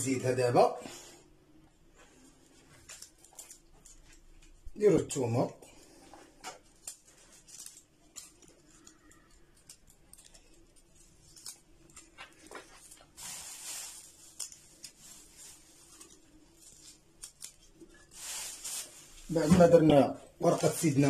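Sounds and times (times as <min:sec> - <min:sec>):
plastic bag rustling: 0:02.0 - 0:04.6, 0:05.8 - 0:21.0.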